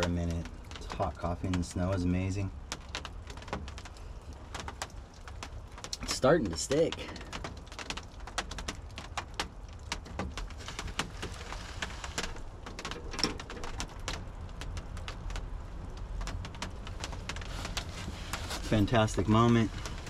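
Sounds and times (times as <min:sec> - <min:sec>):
low steady rumble: 0:00.0 - 0:20.0
snow tapping on a roof: 0:00.0 - 0:20.0.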